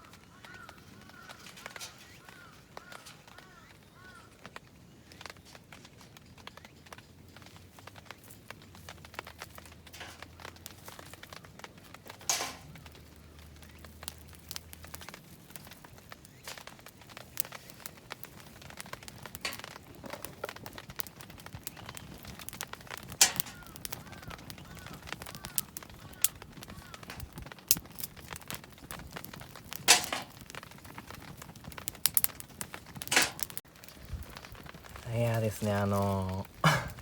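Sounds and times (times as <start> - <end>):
crinkling handling noise: 0.0 - 37.0.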